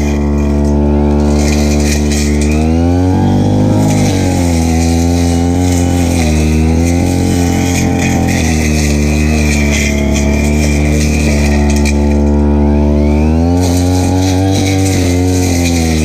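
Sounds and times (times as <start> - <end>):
brushcutter engine running: 0.0 - 16.0.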